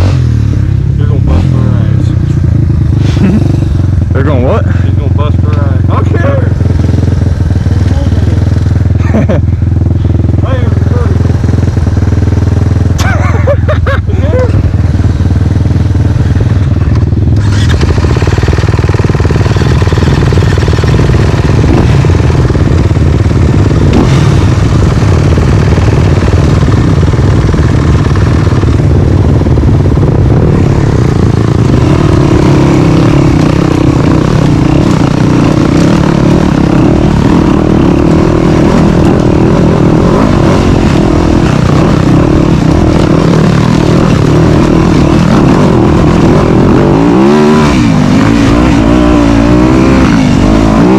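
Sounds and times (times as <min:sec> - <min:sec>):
dirt bike engine running: 0:00.0 - 0:50.9
higher steady engine note: 0:00.0 - 0:50.9.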